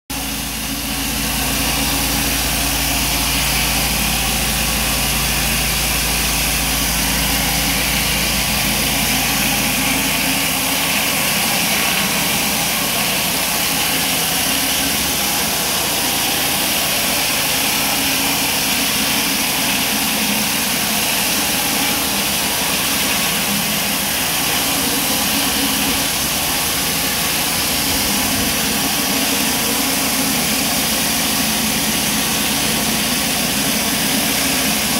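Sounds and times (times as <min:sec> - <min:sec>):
pressure washer jets hissing: 0:00.2 - 0:34.9.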